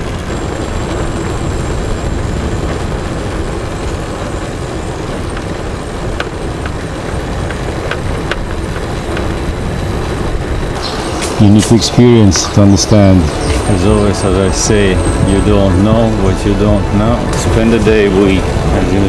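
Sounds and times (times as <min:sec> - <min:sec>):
vehicle rumble and rush: 0:00.0 - 0:19.0.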